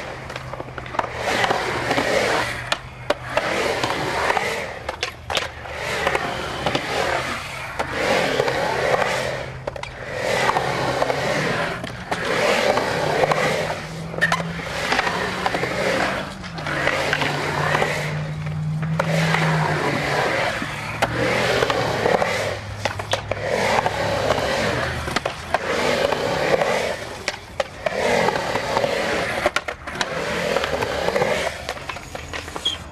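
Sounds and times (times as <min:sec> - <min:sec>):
skateboard wheels rolling on concrete: 0:00.0 - 0:32.9.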